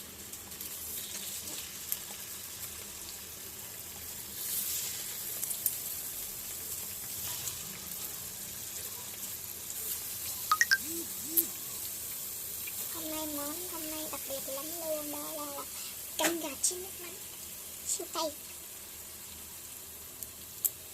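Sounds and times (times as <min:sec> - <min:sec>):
wings sizzling in hot oil: 0:00.0 - 0:20.9.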